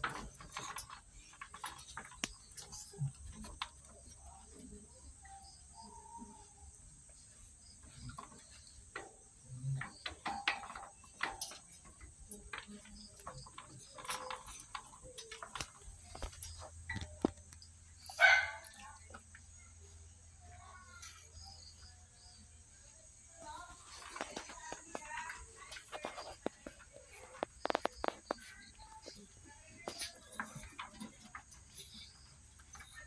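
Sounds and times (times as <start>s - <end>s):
claws clicking on wire crate: 0.0s - 20.1s, 23.5s - 33.0s.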